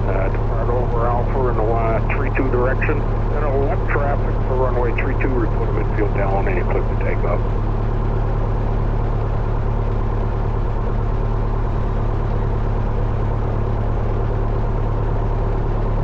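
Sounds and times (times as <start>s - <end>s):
aircraft engine idling: 0.0s - 16.0s.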